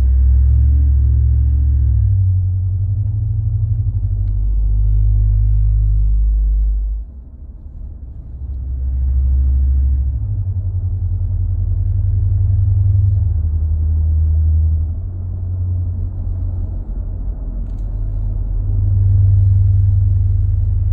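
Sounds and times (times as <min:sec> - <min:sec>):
low droning hum in truck cab: 0:00.0 - 0:20.9.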